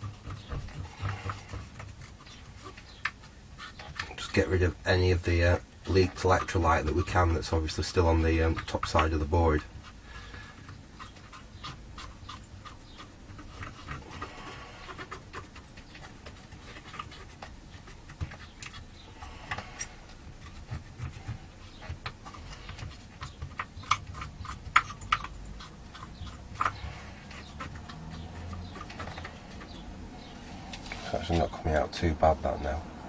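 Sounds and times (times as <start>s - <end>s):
small scratches and clicks: 0.0s - 32.8s.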